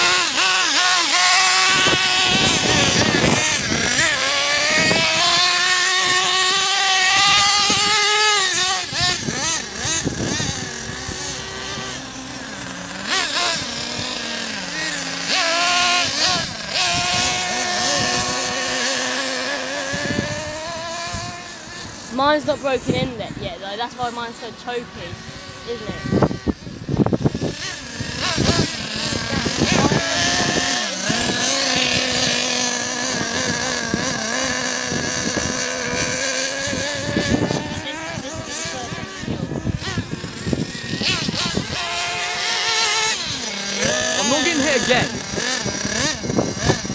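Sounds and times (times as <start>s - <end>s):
small engines revving: 0.0s - 46.9s
wind noise on microphone: 0.0s - 46.9s.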